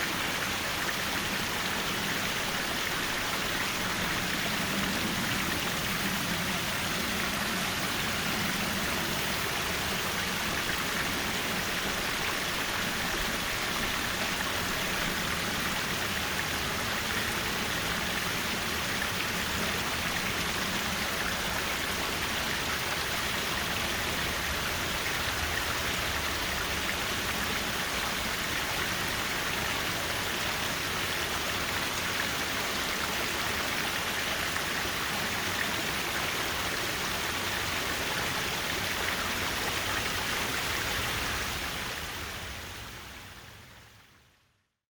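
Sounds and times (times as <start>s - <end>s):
stream rushing water: 0.0s - 44.1s.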